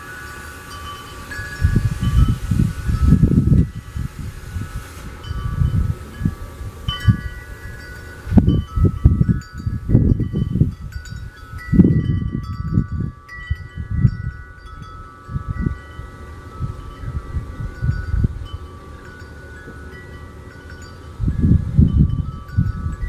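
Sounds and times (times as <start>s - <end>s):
low rumbling: 0.0s - 23.0s
wind chimes ringing: 0.0s - 23.0s.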